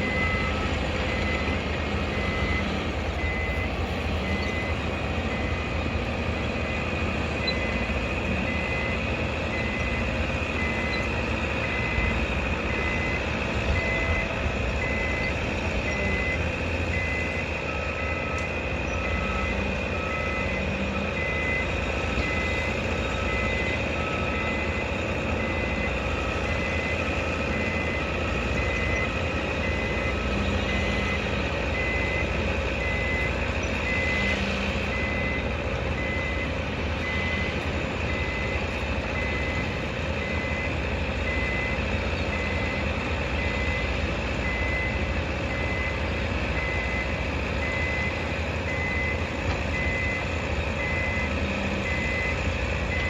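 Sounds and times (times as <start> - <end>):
low engine rumble: 0.0 - 53.0
reversing alarm beeping: 0.0 - 53.0.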